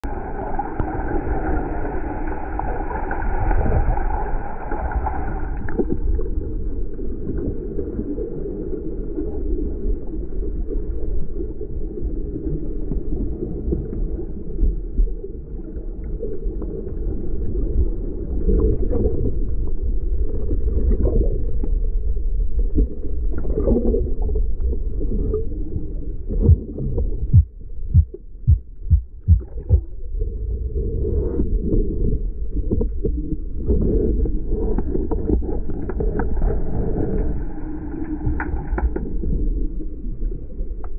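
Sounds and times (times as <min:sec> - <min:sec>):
muffled underwater rumble: 0:00.0 - 0:40.9.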